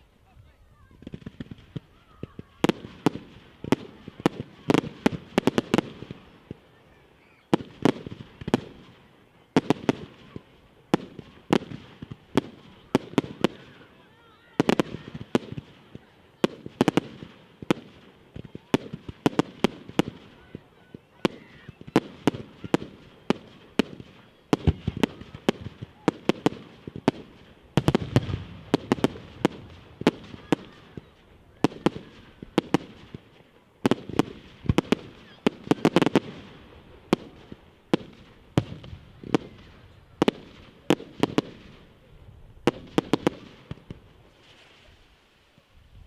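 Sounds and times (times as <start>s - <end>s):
fireworks bangs: 0.8s - 45.7s.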